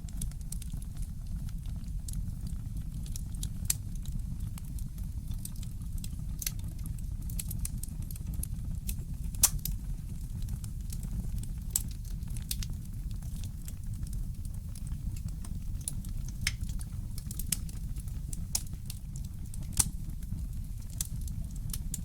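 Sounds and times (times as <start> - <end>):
wood fire crackling: 0.1 - 22.0.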